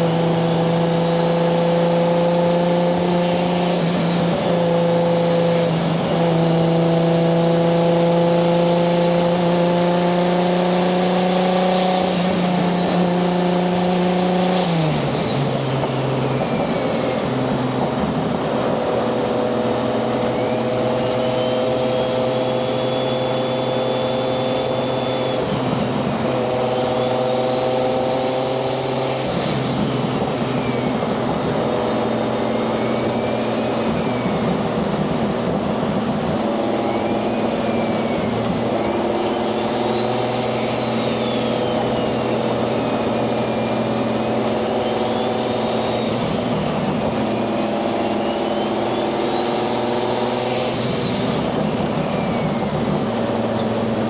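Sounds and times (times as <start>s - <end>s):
turbo whistle: 0.4s - 15.4s, 20.1s - 25.6s, 26.5s - 53.8s.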